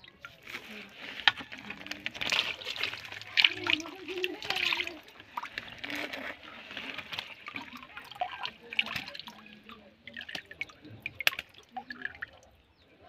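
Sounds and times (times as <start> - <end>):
water splashing and dripping: 0.0 - 12.6.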